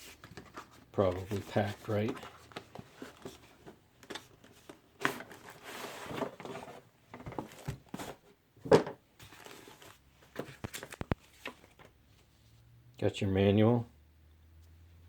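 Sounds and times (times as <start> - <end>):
cardboard and paper rustling: 0.0 - 12.5.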